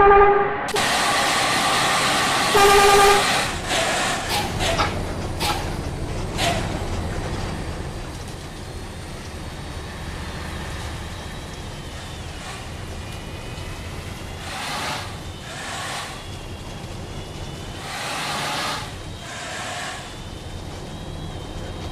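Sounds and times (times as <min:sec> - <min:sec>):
bus diesel engine rumbling: 0:00.7 - 0:21.9.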